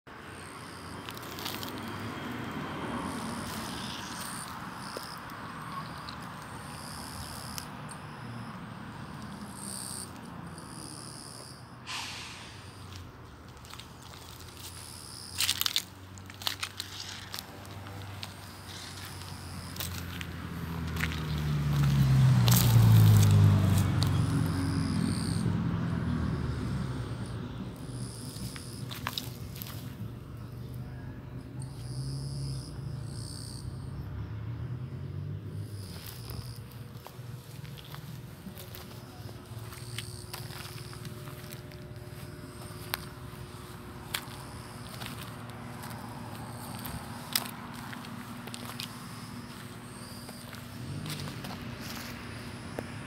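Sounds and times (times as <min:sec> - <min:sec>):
outdoor background noise: 0:00.1 - 0:53.0
vehicle engine passing by: 0:00.3 - 0:53.0.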